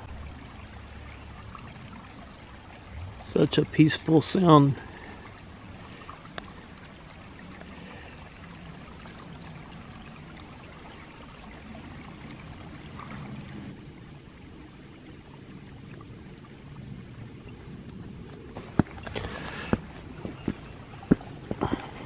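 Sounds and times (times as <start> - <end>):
small stream trickling: 0.0 - 22.0.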